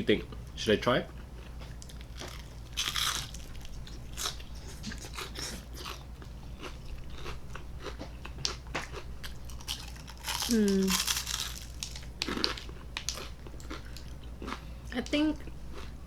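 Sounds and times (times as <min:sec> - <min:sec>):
chewing and crunching food: 0:00.2 - 0:16.0.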